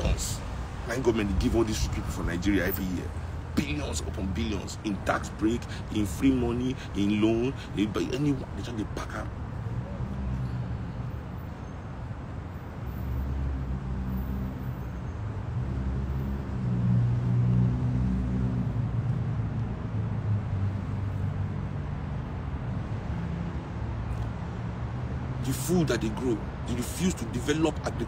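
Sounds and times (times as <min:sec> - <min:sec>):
traffic rumble with engine: 0:00.0 - 0:28.0.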